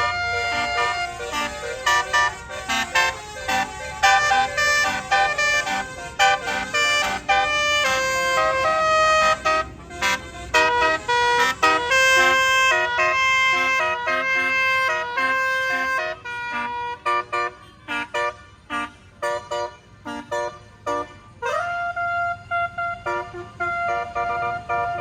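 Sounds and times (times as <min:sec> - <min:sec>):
multi-tone air horn melody: 0:00.0 - 0:25.0.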